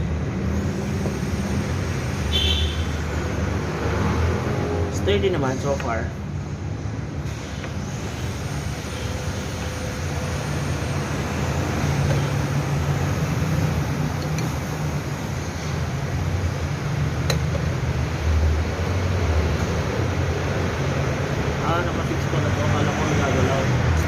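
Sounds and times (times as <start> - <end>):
vehicle engine hum: 0.0 - 24.0.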